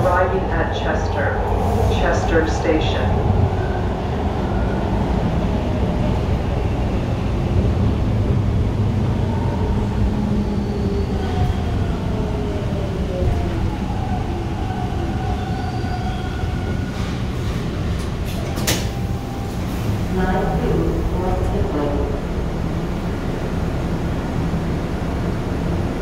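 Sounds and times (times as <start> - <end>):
subway train low rumble: 0.0 - 26.0.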